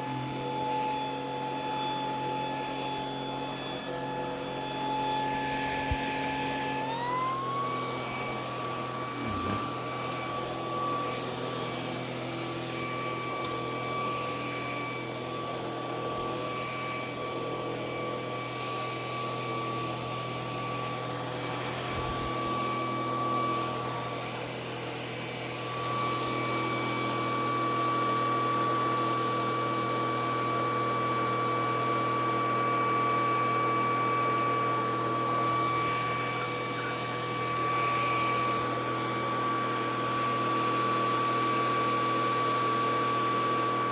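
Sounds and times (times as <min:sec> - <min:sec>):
vacuum cleaner whining: 0:00.0 - 0:43.9.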